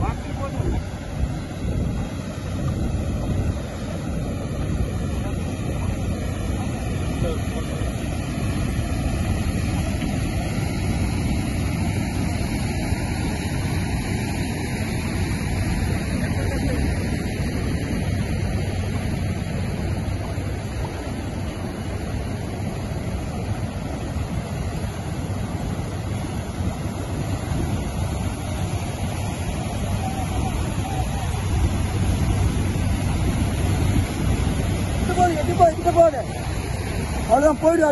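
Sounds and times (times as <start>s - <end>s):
surf breaking: 0.0s - 37.9s
water rushing through sand channel: 0.0s - 37.9s.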